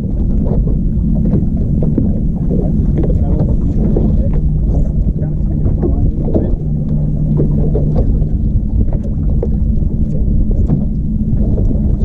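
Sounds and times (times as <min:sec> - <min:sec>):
outboard motor running: 0:00.0 - 0:12.0
wind on microphone: 0:00.0 - 0:12.0.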